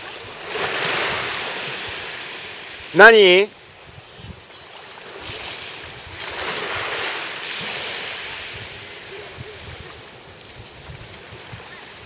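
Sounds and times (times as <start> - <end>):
waves washing over pebbles: 0.0 - 4.0, 4.6 - 12.0.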